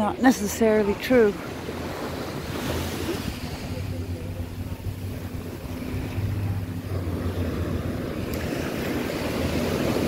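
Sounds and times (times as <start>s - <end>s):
small waves washing onto sand: 0.0s - 10.0s
wind on microphone: 0.1s - 10.0s
steady low hum: 0.7s - 10.0s.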